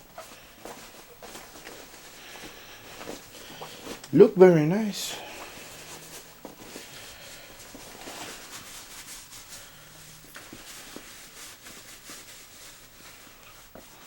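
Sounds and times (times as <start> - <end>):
cloth rustling and rubbing: 0.0 - 14.0.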